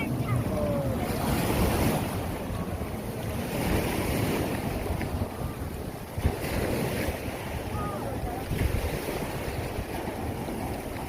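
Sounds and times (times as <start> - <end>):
sea surf washing: 0.0 - 11.0
wind on microphone: 0.0 - 11.0.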